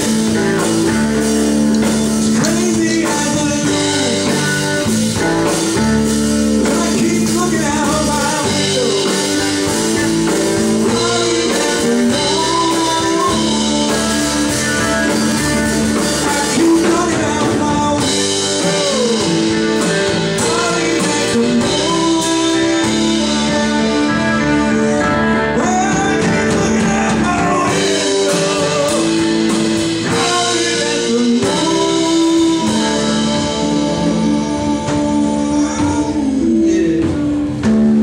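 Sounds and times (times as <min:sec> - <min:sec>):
bending sliding lead notes: 0:00.0 - 0:38.0
blues band playing: 0:00.0 - 0:38.0.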